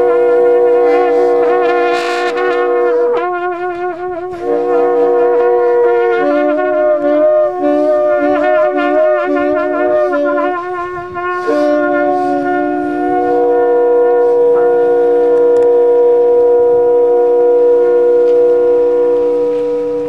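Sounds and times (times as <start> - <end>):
saxophone: 0.0 - 20.0
trumpet: 0.0 - 20.0.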